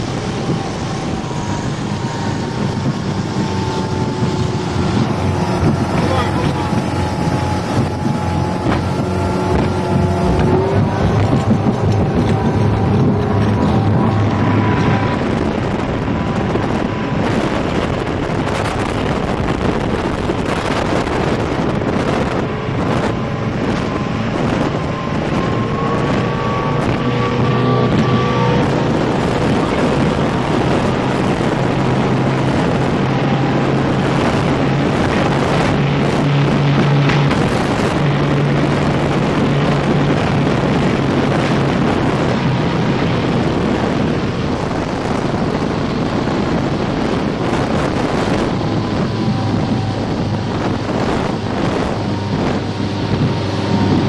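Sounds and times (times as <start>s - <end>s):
boat motor humming: 0.0s - 54.0s
wind rushing over microphone: 0.0s - 54.0s.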